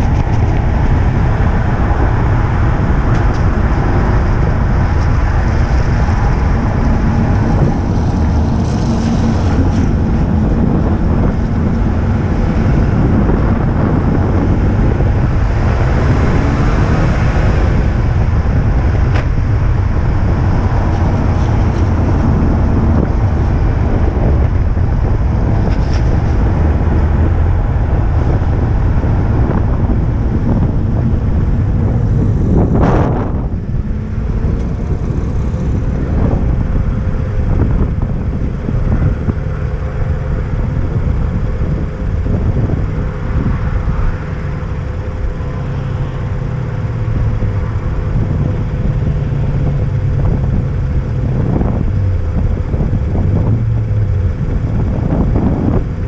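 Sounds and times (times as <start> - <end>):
car engine at speed: 0.0 - 56.0
tyre and wind noise: 0.0 - 56.0.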